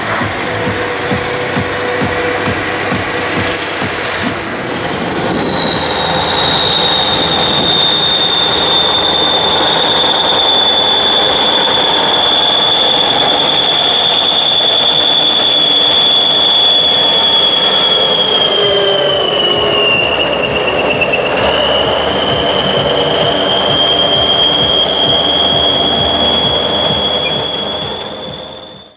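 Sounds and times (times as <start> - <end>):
tractor diesel engine running: 0.0 - 28.9
turbocharger whistling: 0.0 - 28.9.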